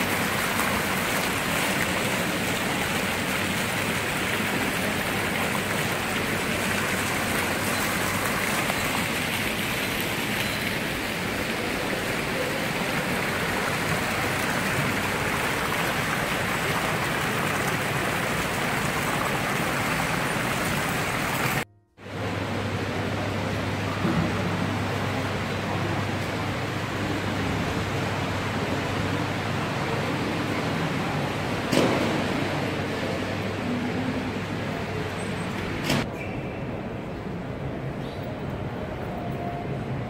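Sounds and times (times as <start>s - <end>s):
fountain water splashing: 0.0s - 35.8s.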